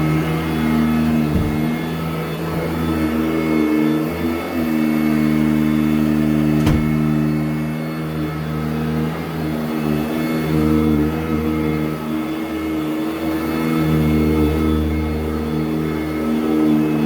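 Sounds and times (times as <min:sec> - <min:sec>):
upright vacuum running over carpet: 0:00.0 - 0:17.0.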